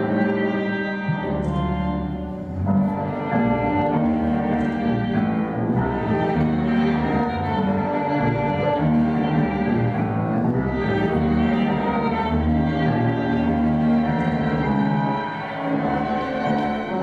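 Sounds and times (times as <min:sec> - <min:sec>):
tango orchestra music: 0:00.0 - 0:17.0.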